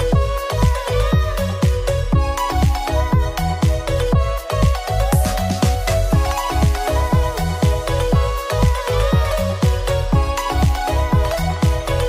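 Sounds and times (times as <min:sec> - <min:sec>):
electronic music with fast beat: 0:00.0 - 0:12.0.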